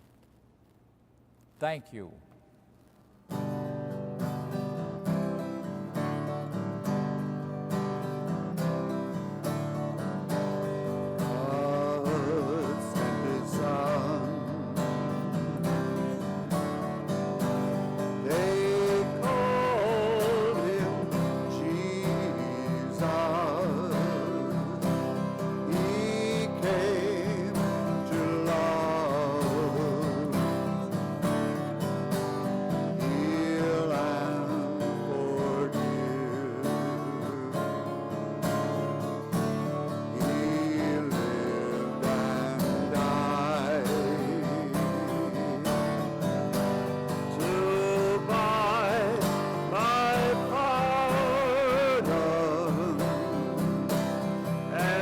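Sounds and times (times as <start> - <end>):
slow song with guitar: 2.8 - 55.0.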